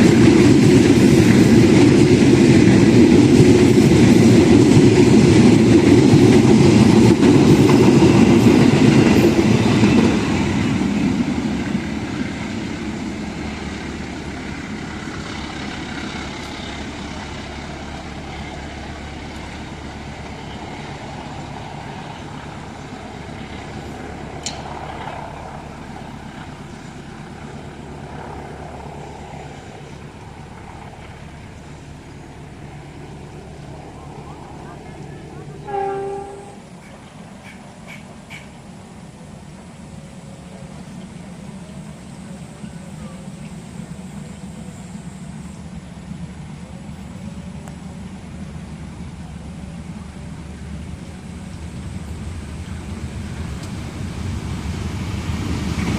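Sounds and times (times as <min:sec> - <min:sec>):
train running past: 0:00.0 - 0:55.9.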